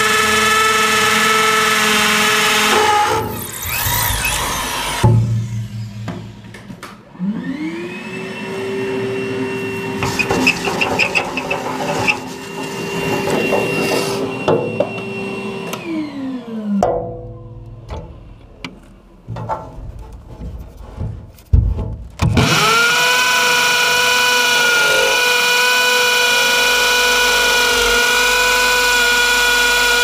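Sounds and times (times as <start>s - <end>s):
vacuum cleaner running: 0.0s - 16.8s, 22.3s - 30.0s.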